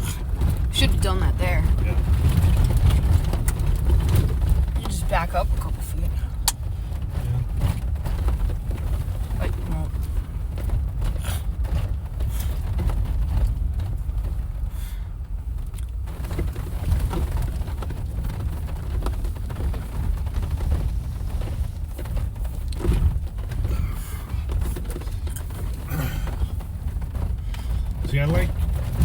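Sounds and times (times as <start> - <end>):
knocks and rattles: 0.0 - 29.0
off-road vehicle rumbling: 0.0 - 29.0.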